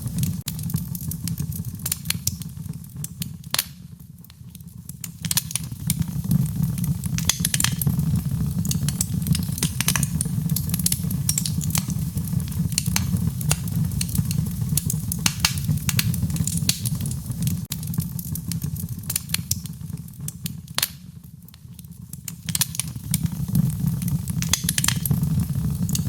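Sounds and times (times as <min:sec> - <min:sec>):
fire crackling and popping: 0:00.0 - 0:26.0
low rumble of fire: 0:00.0 - 0:26.0.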